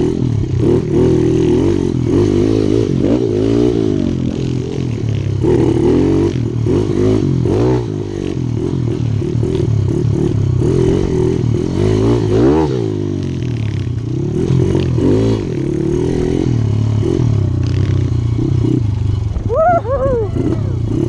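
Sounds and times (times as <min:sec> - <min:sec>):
mini bike engine revving: 0:00.0 - 0:21.0.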